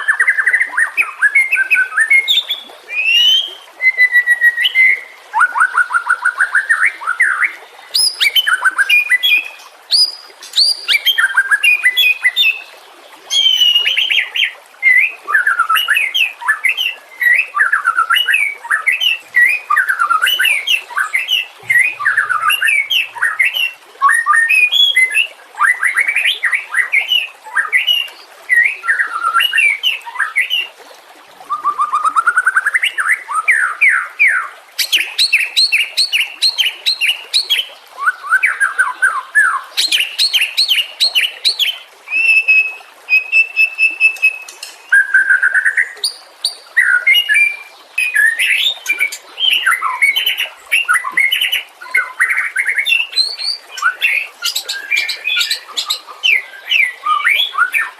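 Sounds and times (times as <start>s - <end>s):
bird singing whistled song: 0.0s - 12.7s, 13.3s - 30.6s, 31.5s - 57.9s.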